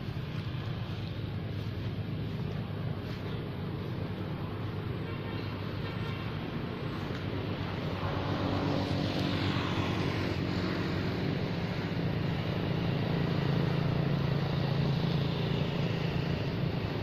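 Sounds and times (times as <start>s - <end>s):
noisy wash: 0.0s - 17.0s
vehicle engine humming: 0.0s - 17.0s.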